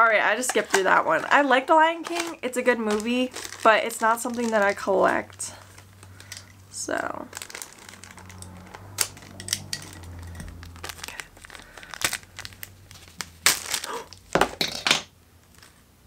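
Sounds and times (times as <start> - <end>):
packaging crinkling: 0.3 - 14.7, 15.4 - 15.9.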